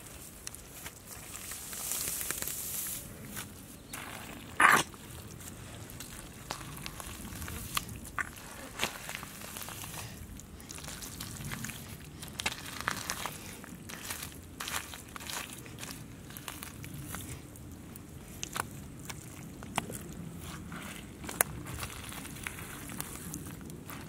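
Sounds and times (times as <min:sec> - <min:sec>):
hands squelching through wet mud: 0:00.0 - 0:24.0.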